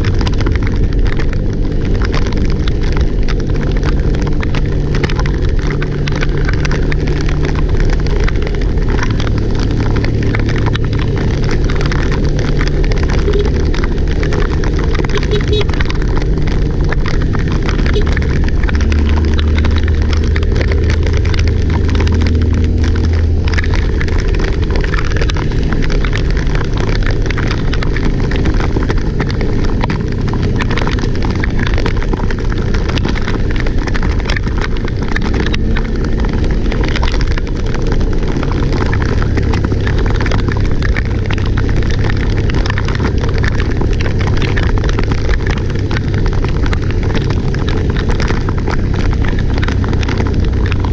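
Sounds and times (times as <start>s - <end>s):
low rumble: 0.0s - 50.9s
strong wind and rain: 0.0s - 50.9s.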